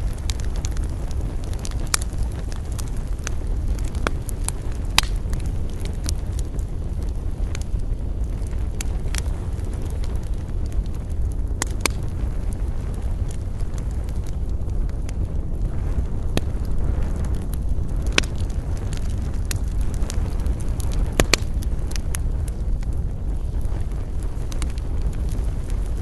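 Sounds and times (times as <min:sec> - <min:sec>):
burning wood crackles and pops: 0:00.0 - 0:26.0
low rumble of campfire: 0:00.0 - 0:26.0.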